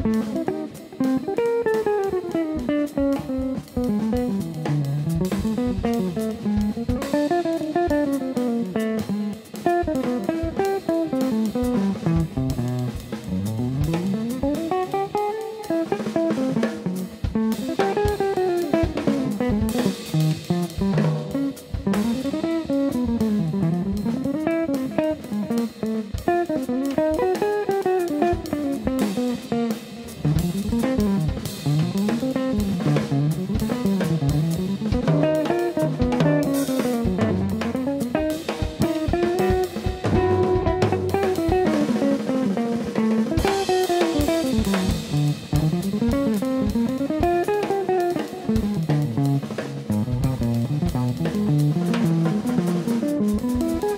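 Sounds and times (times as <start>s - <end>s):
drum kit with cymbals: 0.0s - 53.9s
jazz electric guitar lines: 0.0s - 53.9s.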